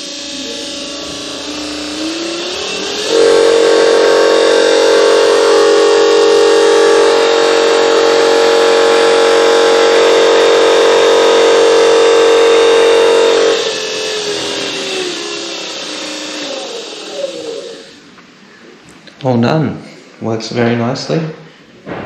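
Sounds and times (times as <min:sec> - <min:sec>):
electric motor whine: 0:00.0 - 0:18.2.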